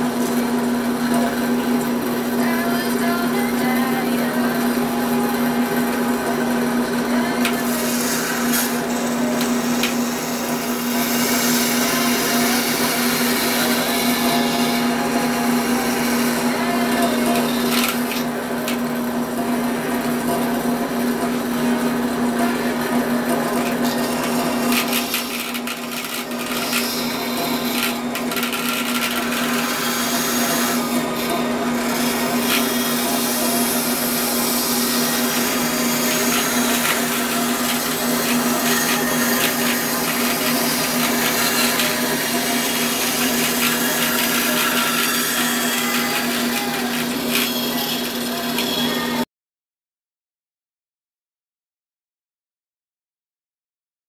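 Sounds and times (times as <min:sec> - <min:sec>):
bandsaw motor hum: 0:00.0 - 0:49.3.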